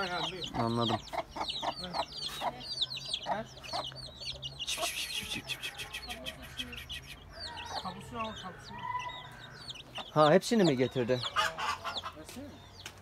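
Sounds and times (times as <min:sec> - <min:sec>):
hen clucking: 0:00.0 - 0:12.6
chicks peeping: 0:00.0 - 0:13.0.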